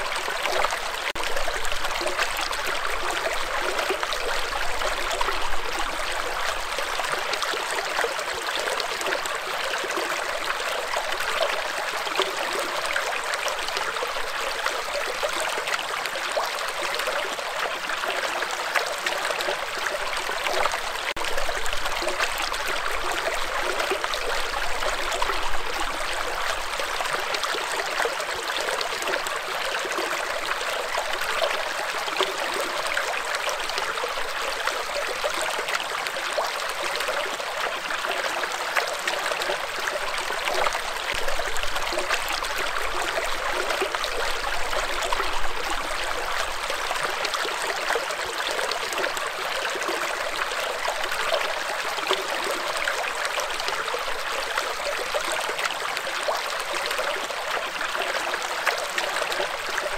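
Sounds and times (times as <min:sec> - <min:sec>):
stream babbling over rocks: 0:00.0 - 0:59.9.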